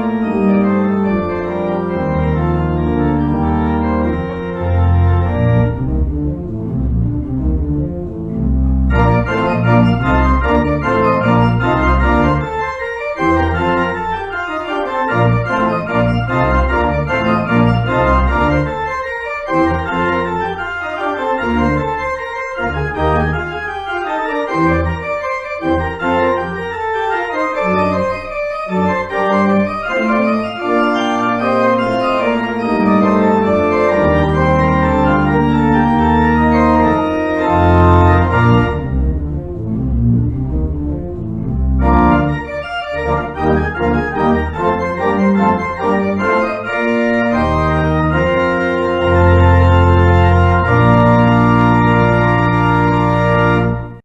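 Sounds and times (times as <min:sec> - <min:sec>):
organ playing chords: 0:00.0 - 0:54.0.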